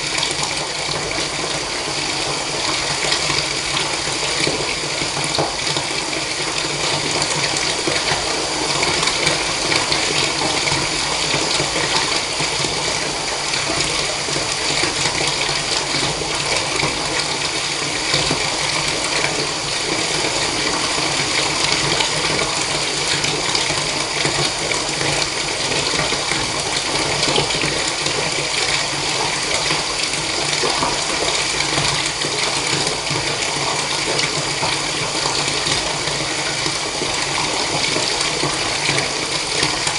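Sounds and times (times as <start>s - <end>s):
tap running into bathtub: 0.0s - 39.9s.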